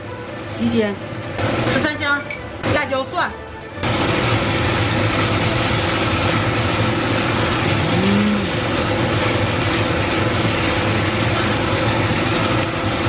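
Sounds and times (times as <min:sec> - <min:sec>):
meat sizzling in a wok: 0:00.0 - 0:03.2, 0:03.8 - 0:13.0
low mechanical hum: 0:00.0 - 0:13.0.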